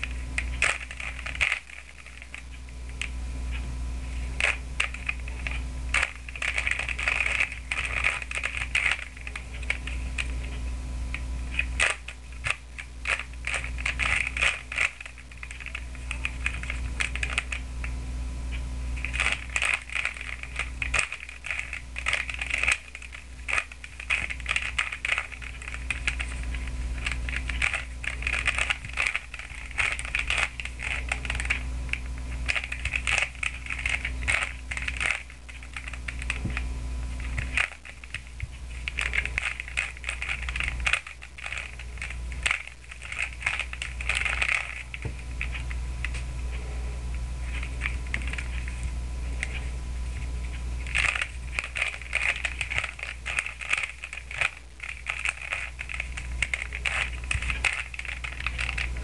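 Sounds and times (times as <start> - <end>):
puzzle cube clicking: 0.4 - 3.1, 4.4 - 10.3, 11.5 - 17.6, 19.0 - 36.6, 37.2 - 45.7, 50.8 - 59.0.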